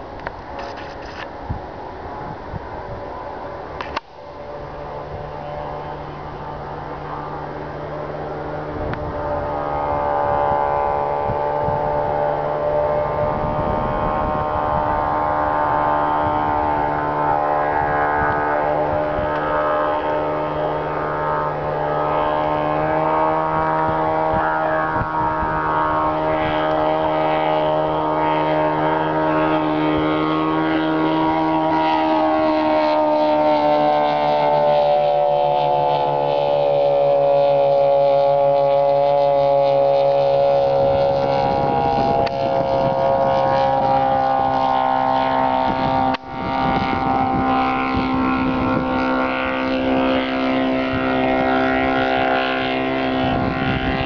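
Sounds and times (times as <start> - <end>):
light aircraft engine droning overhead: 0.0 - 54.0.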